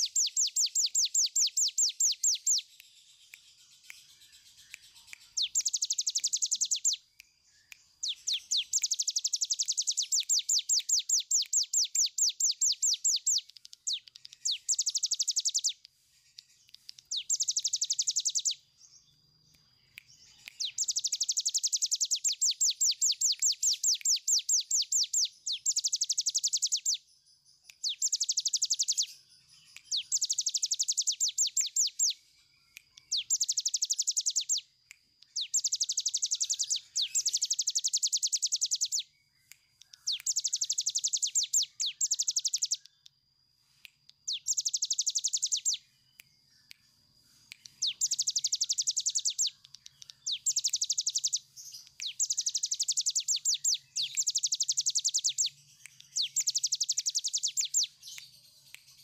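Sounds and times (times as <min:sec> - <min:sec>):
bird singing buzzy trills: 0:00.0 - 0:43.1, 0:44.3 - 0:59.0.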